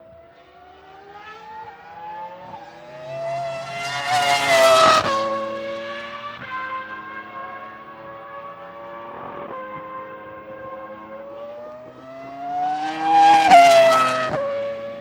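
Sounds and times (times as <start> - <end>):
racing car engine passing: 0.7 - 15.0.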